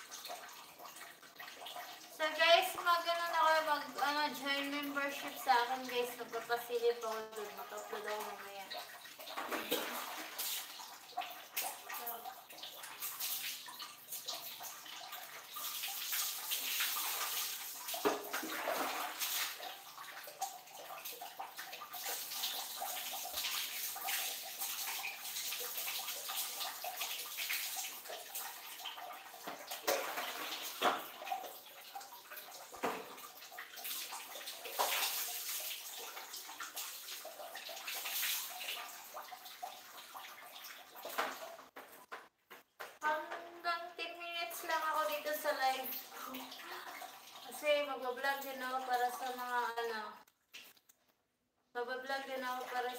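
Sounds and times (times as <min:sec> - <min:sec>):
water pouring and splashing: 0:00.0 - 0:51.0.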